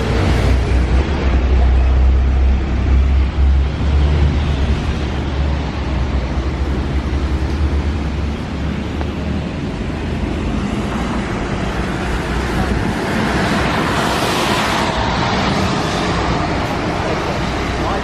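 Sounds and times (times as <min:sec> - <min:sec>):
road traffic rumbling: 0:00.0 - 0:18.0
wind buffeting microphone: 0:02.7 - 0:18.0.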